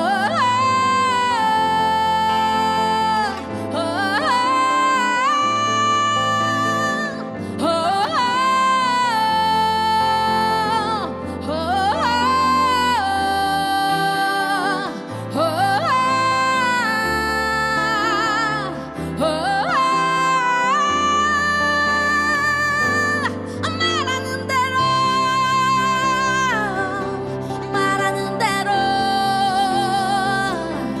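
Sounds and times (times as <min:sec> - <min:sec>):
woman singing wordless phrases: 0:00.0 - 0:31.0.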